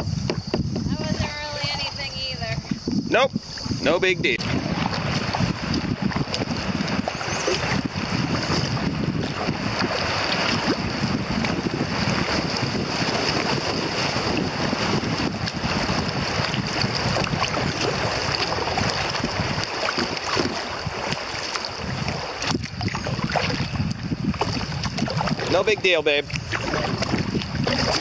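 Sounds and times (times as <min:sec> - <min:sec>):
water rushing around a kayak: 0:00.0 - 0:28.0
wind buffeting microphone: 0:00.0 - 0:28.0.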